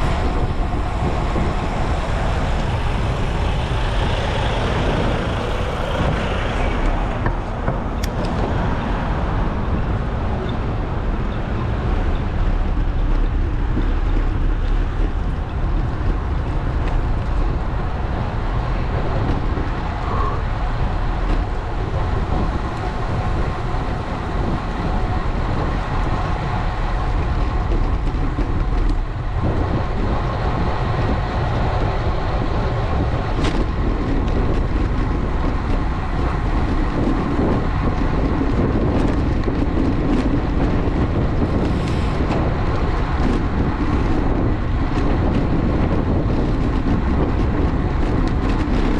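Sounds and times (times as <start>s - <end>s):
traffic passing: 0.0s - 48.9s
wind and road noise: 0.0s - 48.9s.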